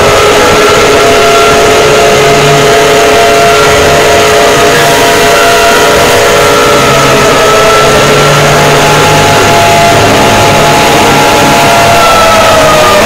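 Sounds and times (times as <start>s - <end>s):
distorted electronic alarm tones: 0.0s - 13.0s
harsh noise: 0.0s - 13.0s.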